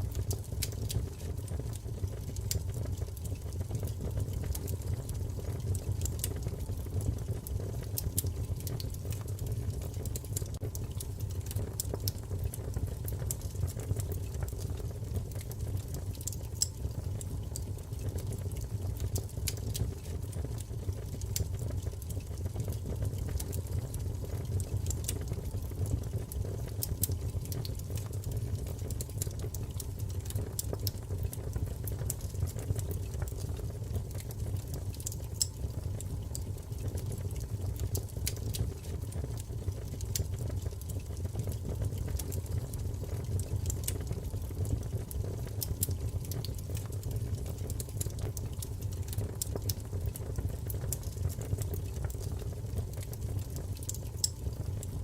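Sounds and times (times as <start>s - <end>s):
burning logs crackling and popping: 0.0s - 55.0s
wood fire burning: 0.0s - 55.0s.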